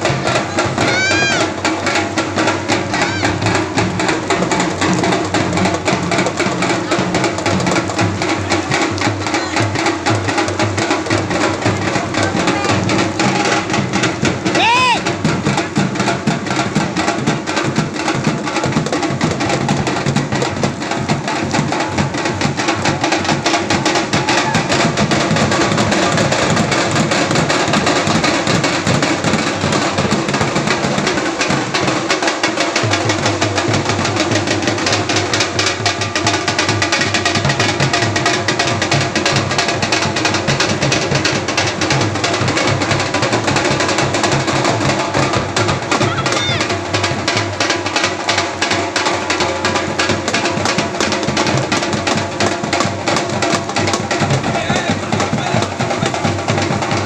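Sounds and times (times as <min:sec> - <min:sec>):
large drums beaten with sticks: 0:00.0 - 0:57.0.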